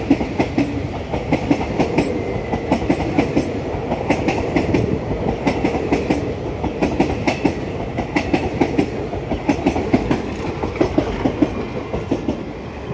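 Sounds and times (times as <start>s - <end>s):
train wheels clattering over rail joints: 0.0s - 12.4s
train rumble: 0.0s - 12.9s.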